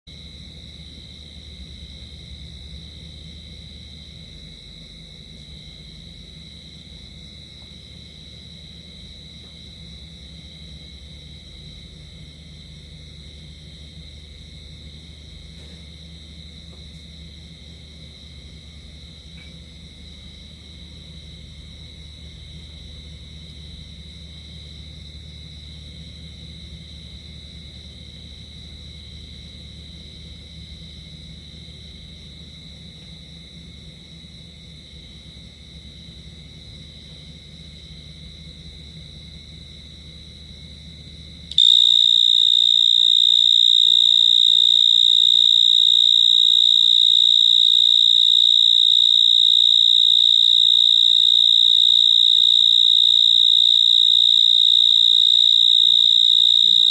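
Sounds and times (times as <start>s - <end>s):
insect high-pitched trill: 0.1s - 56.9s.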